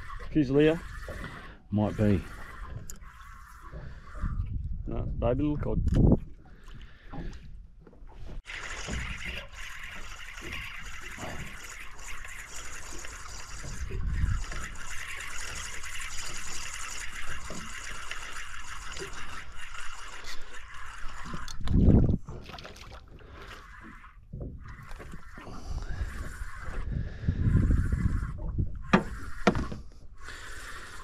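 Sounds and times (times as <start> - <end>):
water lapping against boat: 0.0 - 31.0.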